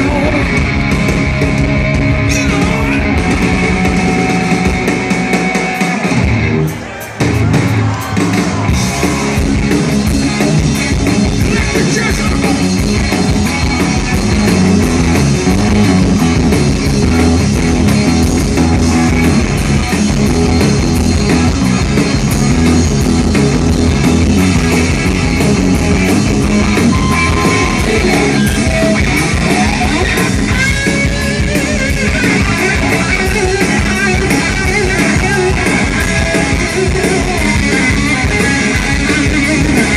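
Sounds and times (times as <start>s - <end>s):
drums: 0.0s - 39.9s
electric guitar: 0.0s - 39.9s.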